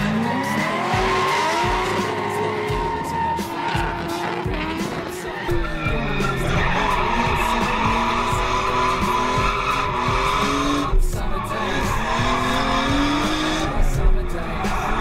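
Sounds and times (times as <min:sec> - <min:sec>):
car engine revving hard: 0:00.0 - 0:15.0
tyres skidding: 0:00.0 - 0:15.0.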